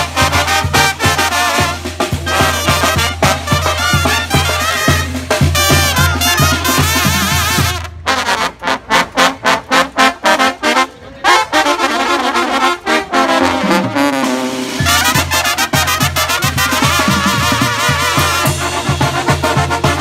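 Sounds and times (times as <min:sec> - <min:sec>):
brass music: 0:00.0 - 0:20.0.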